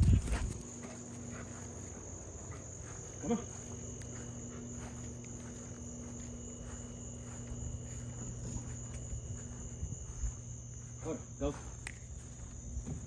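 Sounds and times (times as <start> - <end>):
crickets chirring: 0.0 - 13.0
steady low hum: 0.0 - 13.0.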